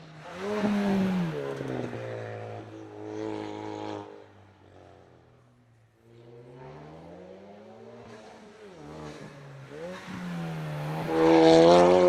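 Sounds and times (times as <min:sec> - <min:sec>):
car accelerating through gears: 0:00.1 - 0:04.1, 0:06.2 - 0:12.0.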